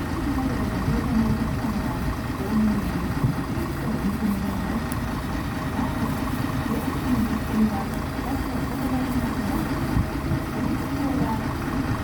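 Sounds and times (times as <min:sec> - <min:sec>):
bus diesel engine idling: 0:00.0 - 0:12.0.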